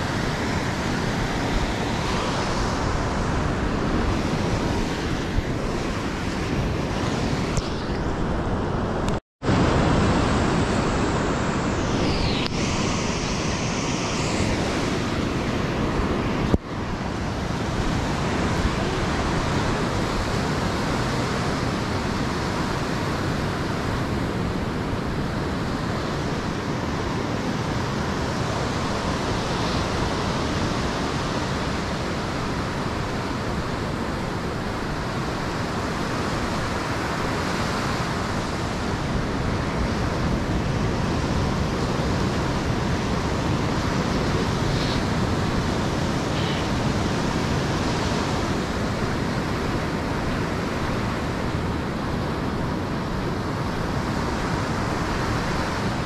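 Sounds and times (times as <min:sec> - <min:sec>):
ocean surf: 0:00.0 - 0:56.0
wind: 0:00.0 - 0:56.0.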